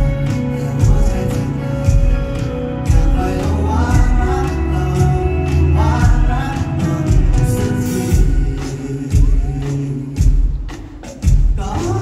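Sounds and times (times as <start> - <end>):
live pop-rock band: 0.0 - 12.0
man singing: 0.0 - 12.0.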